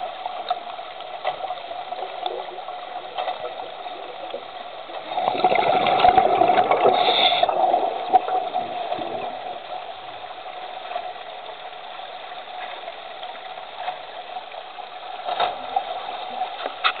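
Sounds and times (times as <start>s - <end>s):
underwater rush of water: 0.0s - 17.0s.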